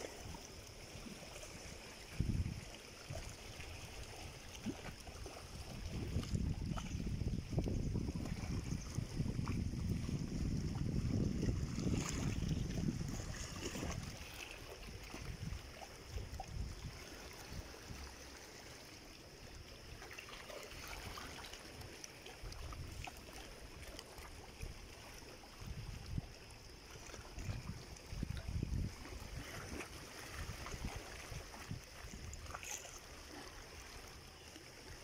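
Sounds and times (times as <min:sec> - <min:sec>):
waves lapping on rocky shore: 0:00.0 - 0:35.0.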